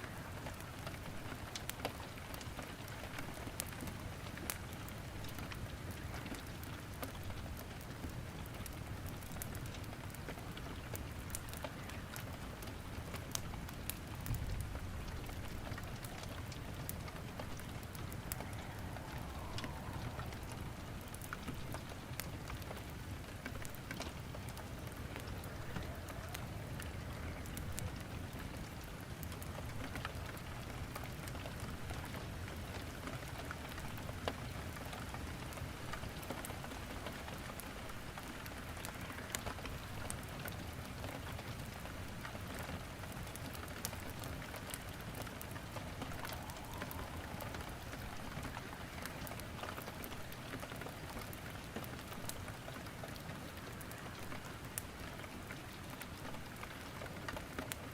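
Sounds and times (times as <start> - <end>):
wood fire crackling: 0.0 - 57.9
rain hissing: 11.1 - 57.9.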